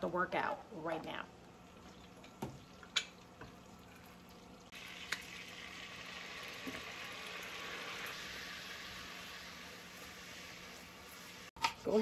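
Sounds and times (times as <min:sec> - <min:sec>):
sauce sizzling in a saucepan: 0:01.5 - 0:12.0.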